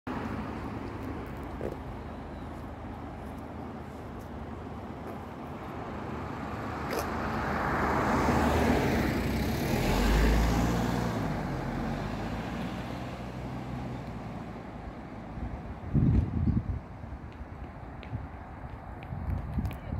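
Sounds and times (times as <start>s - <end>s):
low engine hum: 0.1s - 19.9s
vehicle road noise: 0.1s - 19.9s.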